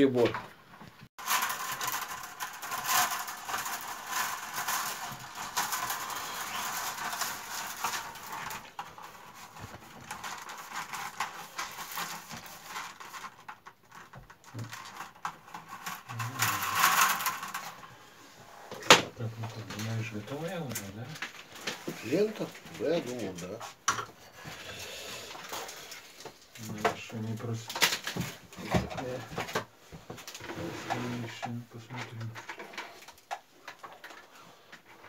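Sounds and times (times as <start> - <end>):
willow rods rustling and clicking: 0.3 - 18.0, 18.6 - 35.0.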